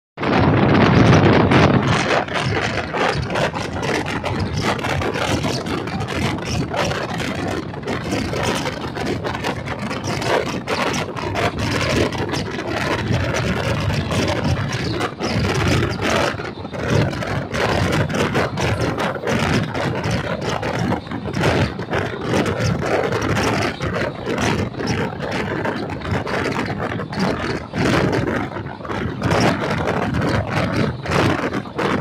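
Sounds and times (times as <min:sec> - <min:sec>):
train wheels rumbling on rails: 0:00.2 - 0:32.0.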